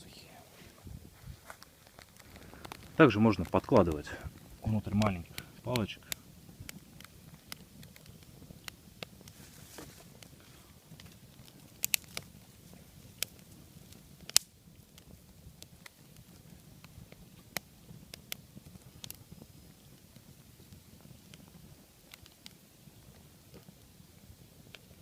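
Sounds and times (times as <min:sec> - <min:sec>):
campfire rumble: 0:00.0 - 0:25.0
wood popping and crackling: 0:00.0 - 0:25.0.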